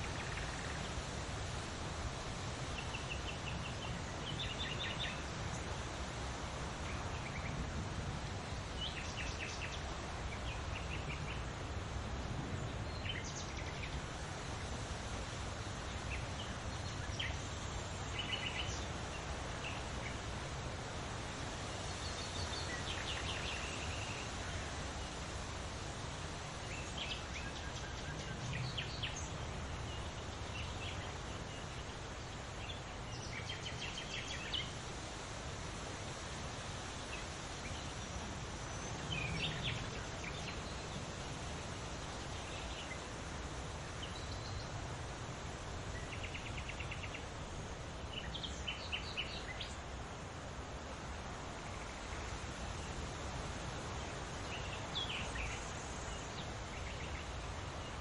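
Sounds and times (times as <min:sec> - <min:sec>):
leaves rustling in wind: 0:00.0 - 0:58.0
songbirds singing and trilling: 0:00.0 - 0:58.0.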